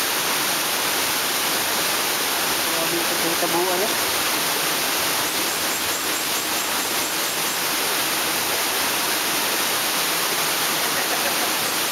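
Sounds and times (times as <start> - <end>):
stream flowing: 0.0 - 11.9.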